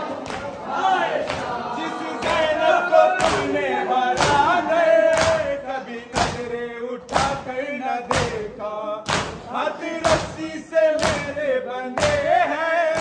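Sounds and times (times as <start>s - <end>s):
men slapping chests in unison: 0.1s - 13.0s
man singing a lament: 1.7s - 13.0s.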